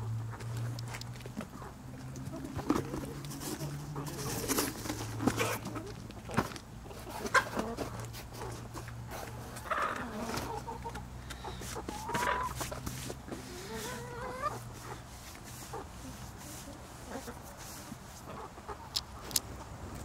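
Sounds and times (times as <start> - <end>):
hens clucking: 0.2 - 20.0.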